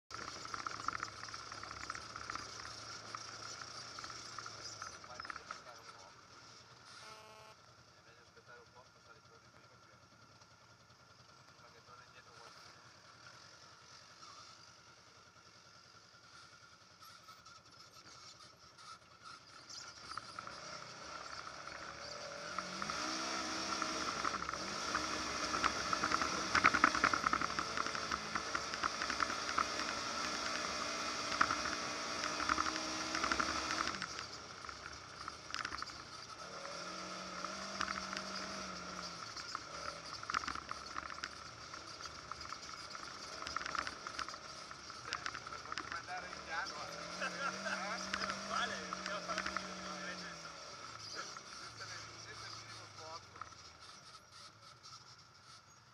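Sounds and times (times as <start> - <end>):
off-road vehicle engine revving: 0.0 - 55.7.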